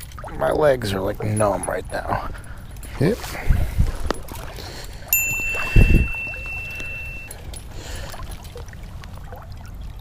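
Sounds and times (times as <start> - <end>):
water splashing around wading legs: 0.0 - 10.0.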